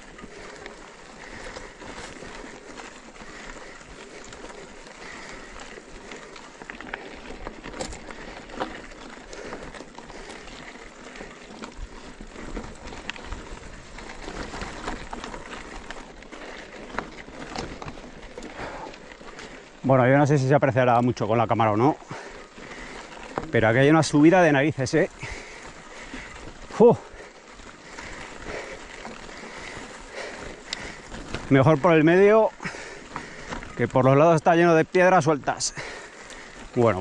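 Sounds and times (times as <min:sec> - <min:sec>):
bike rattle: 0:00.0 - 0:37.0
bike tyres crunching over gravel: 0:00.0 - 0:37.0.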